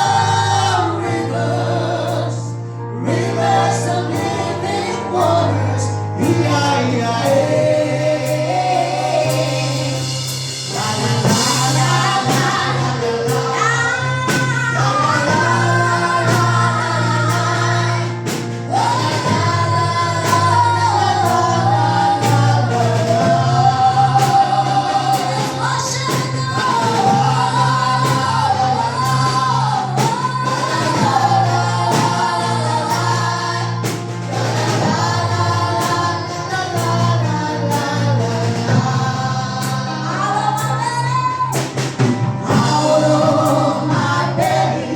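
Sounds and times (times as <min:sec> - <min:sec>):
band with steady beat and bass: 0:00.0 - 0:44.9
voices singing gospel song: 0:00.0 - 0:44.9.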